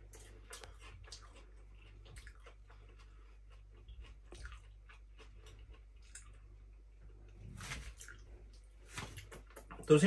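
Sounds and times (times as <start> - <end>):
faint chewing with crunches: 0.0 - 10.0
low steady hum: 0.0 - 10.0.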